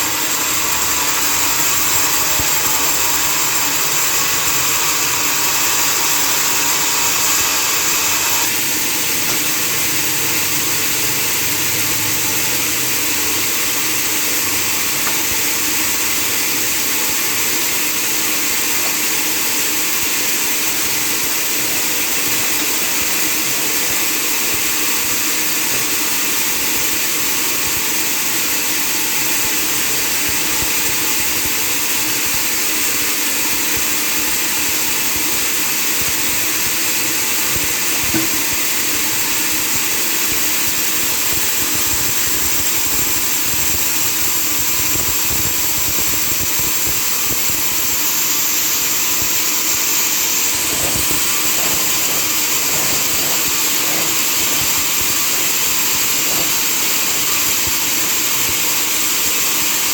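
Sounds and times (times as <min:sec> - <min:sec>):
sawmill machinery whirring: 0:00.0 - 0:27.5, 0:35.6 - 0:59.9.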